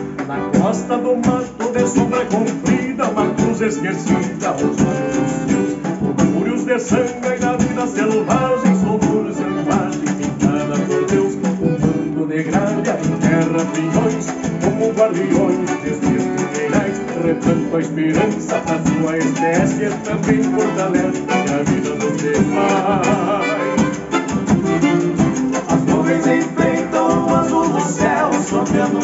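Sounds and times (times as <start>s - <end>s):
accordion: 0.0s - 29.0s
plucked strings: 0.0s - 29.0s
drum played with sticks: 0.1s - 29.0s.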